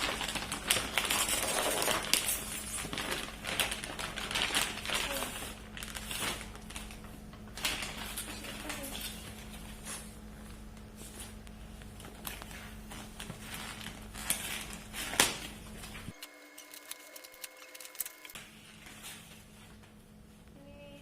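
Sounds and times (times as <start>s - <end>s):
paper rustling and crackling: 0.0s - 19.9s.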